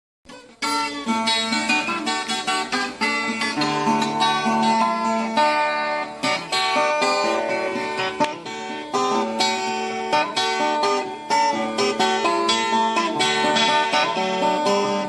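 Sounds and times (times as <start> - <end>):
plucked guitar melody: 0.3 - 15.0.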